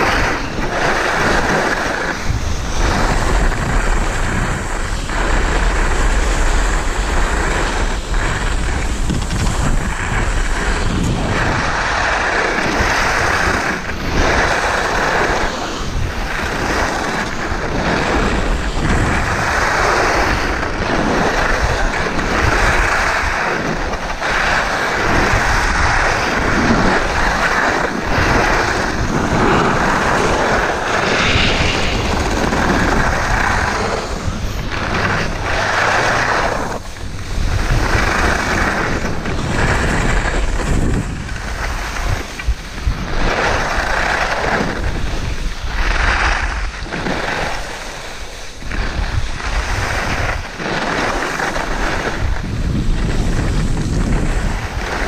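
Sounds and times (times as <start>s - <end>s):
skis scraping over packed snow: 0.0s - 55.0s
wind rushing over microphone: 0.0s - 55.0s.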